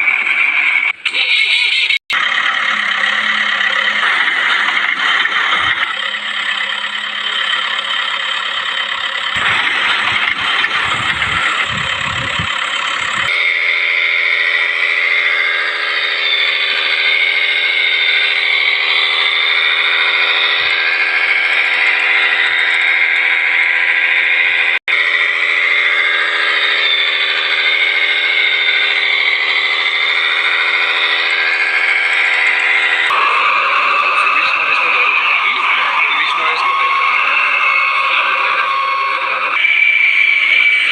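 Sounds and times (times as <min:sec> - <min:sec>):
mini truck engine whining: 0:00.0 - 0:40.9.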